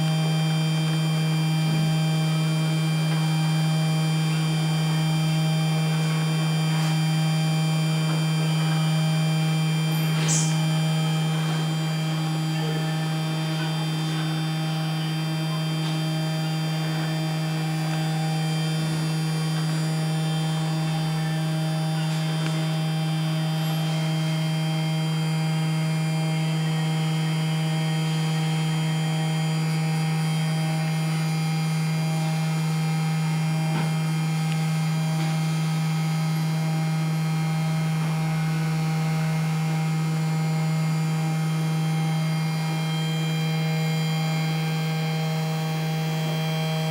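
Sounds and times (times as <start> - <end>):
milling machine motor humming: 0.0 - 46.9.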